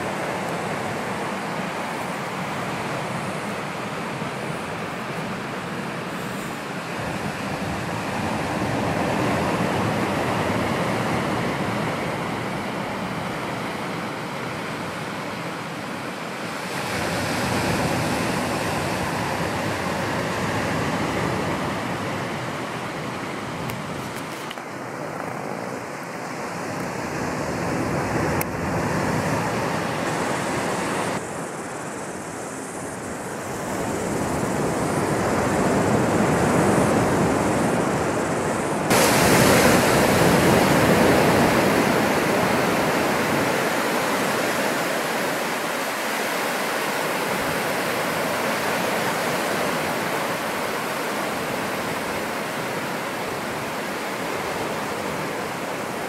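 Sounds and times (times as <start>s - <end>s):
small waves washing on beach: 0.0s - 56.0s.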